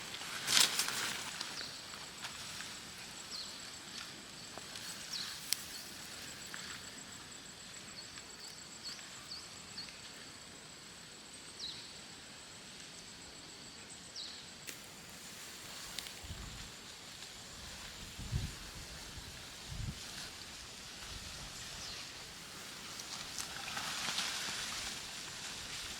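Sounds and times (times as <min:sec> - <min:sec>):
steady hiss: 0:00.0 - 0:25.9.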